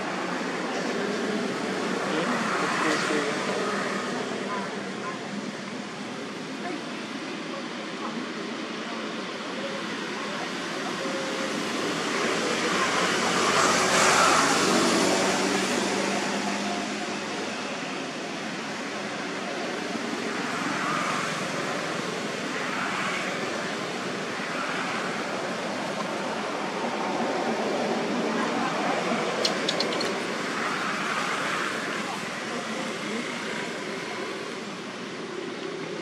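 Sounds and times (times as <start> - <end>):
outdoor background noise: 0.0 - 36.0.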